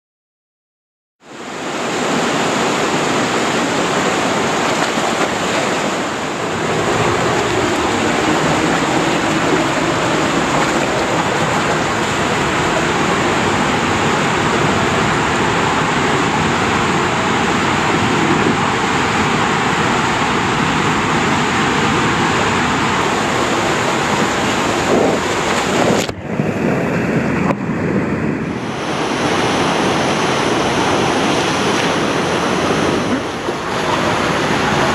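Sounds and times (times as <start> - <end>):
water rushing down a tube slide: 1.2 - 34.9.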